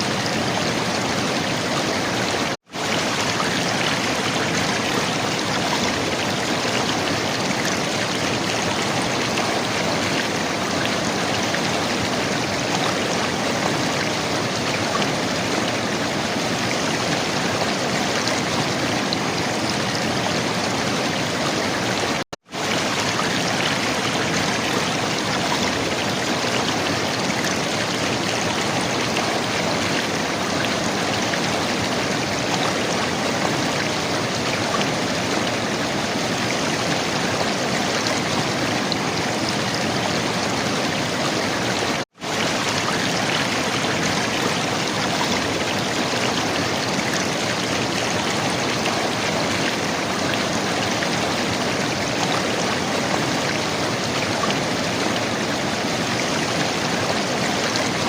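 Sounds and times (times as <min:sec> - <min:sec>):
river water gurgling: 0:00.0 - 0:58.0.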